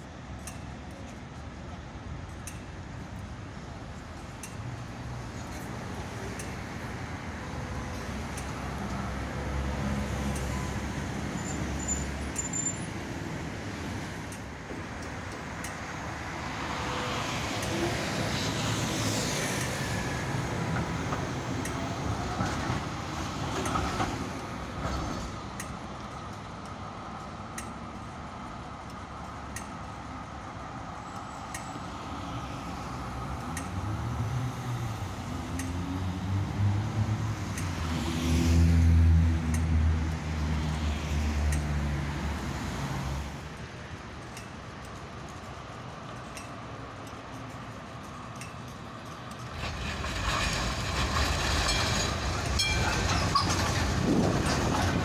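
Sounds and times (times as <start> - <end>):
road traffic: 0.0 - 55.0
tram passing on rails: 0.0 - 55.0.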